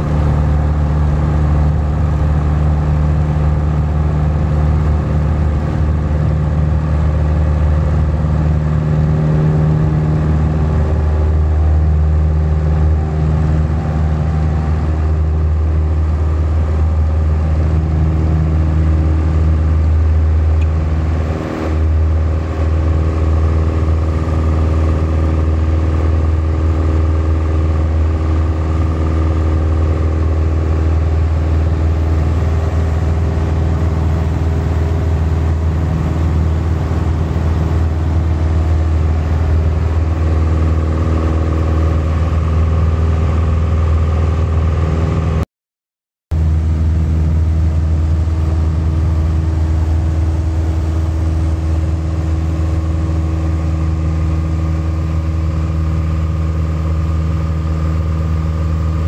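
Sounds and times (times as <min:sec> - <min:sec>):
light aircraft engine drone: 0:00.0 - 0:45.4, 0:46.3 - 0:59.0.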